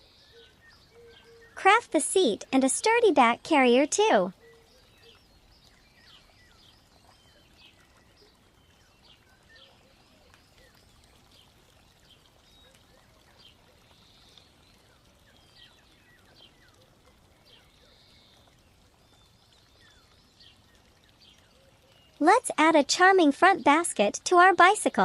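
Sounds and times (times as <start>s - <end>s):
faint high chirps and ticks: 0.0s - 25.0s.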